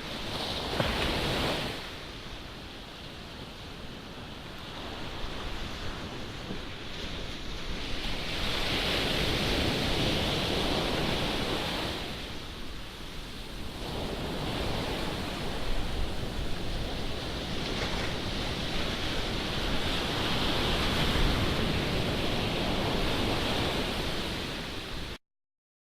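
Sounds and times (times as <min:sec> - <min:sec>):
surf breaking on beach: 0:00.0 - 0:25.2
wind buffeting microphone: 0:03.4 - 0:25.2.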